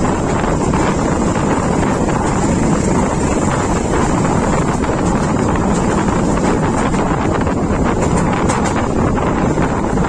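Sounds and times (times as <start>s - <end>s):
train wheels rumbling on rails: 0.0s - 10.0s
wind rushing over microphone: 0.0s - 10.0s.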